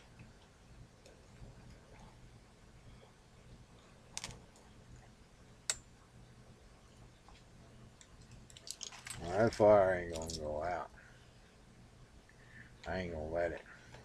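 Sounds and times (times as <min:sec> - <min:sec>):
wood fire crackling: 0:00.0 - 0:11.3.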